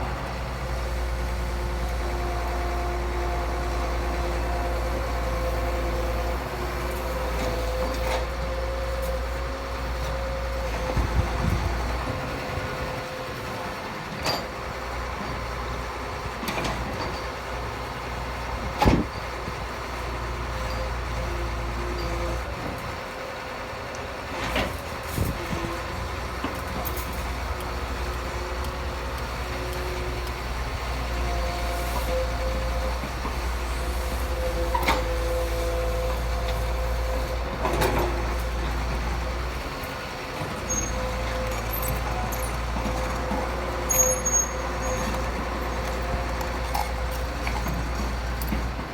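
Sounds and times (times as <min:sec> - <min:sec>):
construction machinery rumbling: 0:00.0 - 0:48.9.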